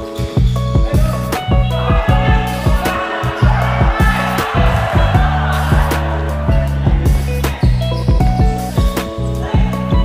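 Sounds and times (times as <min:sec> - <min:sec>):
low thumping beat: 0:00.4 - 0:09.0.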